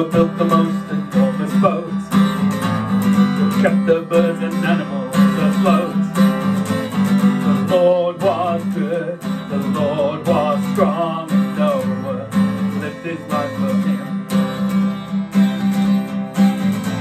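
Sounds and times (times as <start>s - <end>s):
man singing: 0.0s - 2.6s, 3.4s - 14.5s
strummed acoustic guitar: 0.0s - 17.0s.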